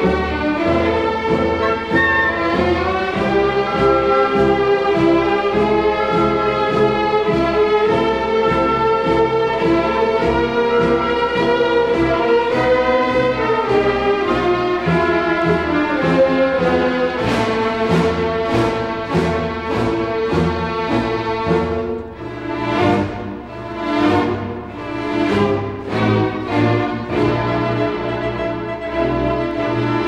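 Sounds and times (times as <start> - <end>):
orchestral music with bowed strings: 0.0 - 30.0.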